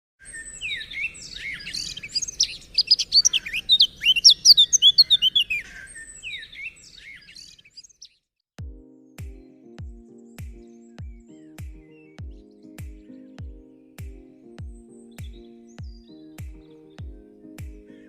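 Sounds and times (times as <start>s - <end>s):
birds chirping: 0.2s - 8.3s, 8.9s - 18.0s.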